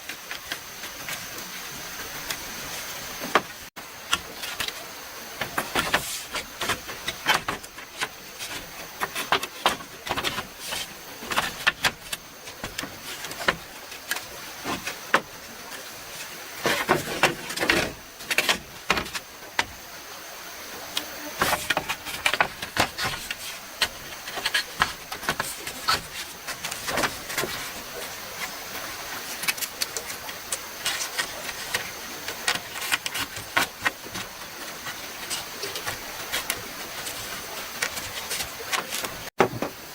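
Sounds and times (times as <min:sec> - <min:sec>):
steady background hiss: 0:00.0 - 0:39.9
tools knocking and scraping: 0:05.4 - 0:19.8, 0:21.4 - 0:39.8.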